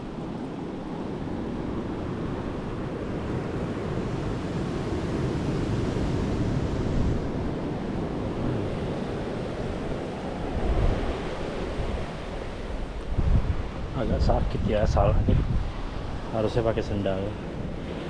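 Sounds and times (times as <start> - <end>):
sea waves washing on shore: 0.0 - 18.0
wind buffeting microphone: 0.0 - 18.0.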